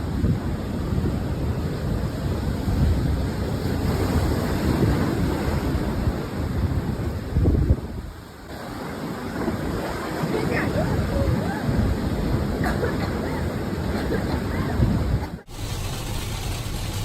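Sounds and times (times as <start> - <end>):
ocean surf rushing: 0.0 - 17.0
wind buffeting microphone: 0.0 - 17.0.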